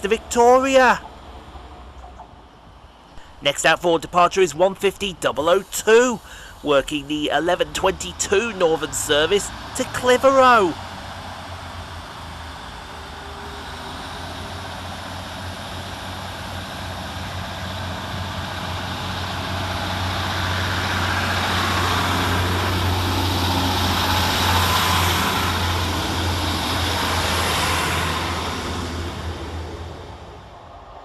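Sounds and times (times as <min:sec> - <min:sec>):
diesel train engines droning: 0:00.0 - 0:31.0.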